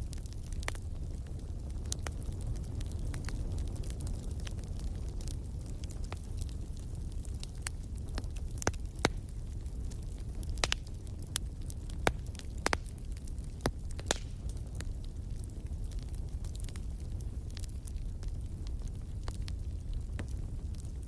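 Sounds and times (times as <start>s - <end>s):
fire crackling and popping: 0.0s - 21.0s
low rumble of flames: 0.0s - 21.0s.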